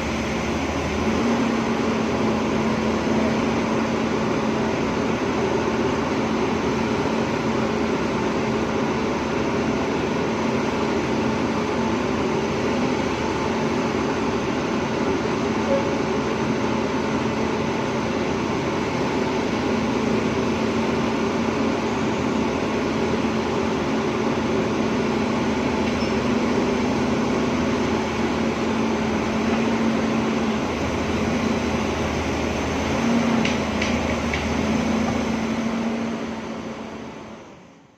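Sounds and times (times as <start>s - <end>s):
excavator diesel engine humming: 0.0s - 37.9s.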